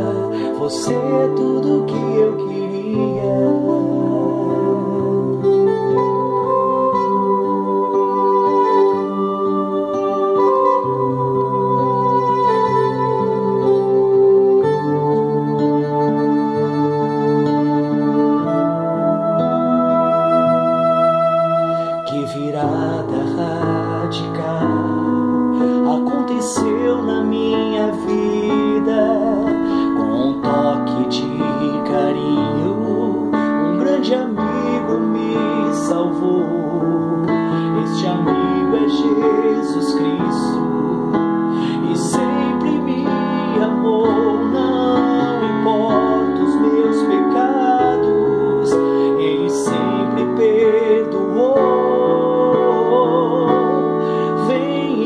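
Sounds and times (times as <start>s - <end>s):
digital piano chords and melody: 0.0s - 55.0s.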